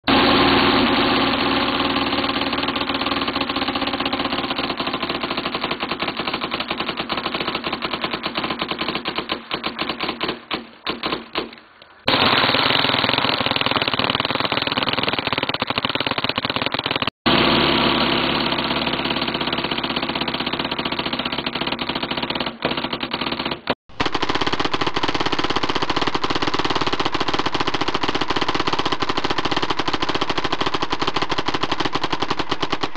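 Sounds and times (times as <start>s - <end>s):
paintball marker firing: 1.0s - 32.9s.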